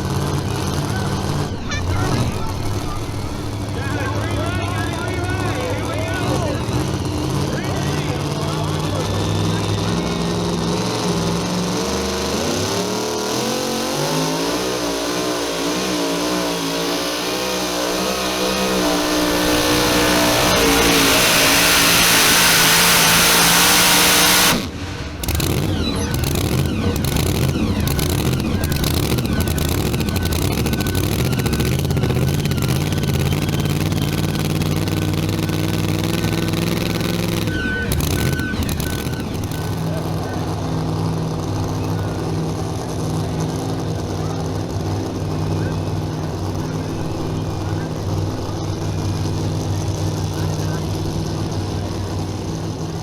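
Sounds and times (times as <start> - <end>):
engine running at steady speed: 0.0 - 53.0
truck engine roaring at full throttle: 0.0 - 53.0.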